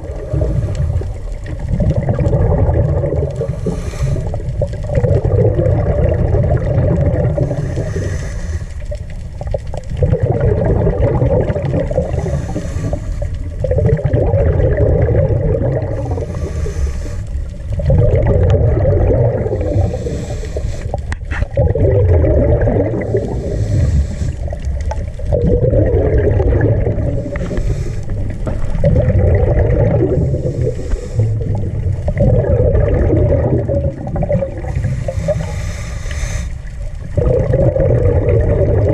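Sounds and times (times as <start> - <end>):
diver breathing underwater: 0.0 - 9.2, 10.1 - 38.9
bubbling from exhale: 0.0 - 38.9
steady low rumble: 0.0 - 38.9.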